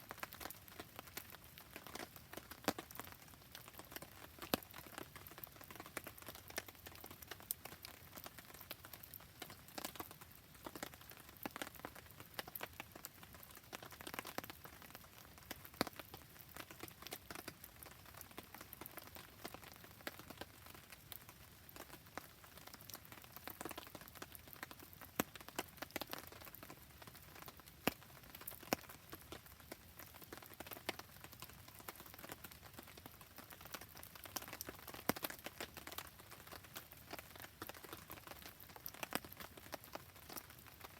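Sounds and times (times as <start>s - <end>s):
steady rain: 0.0s - 40.9s
campfire crackling and popping: 0.1s - 40.9s.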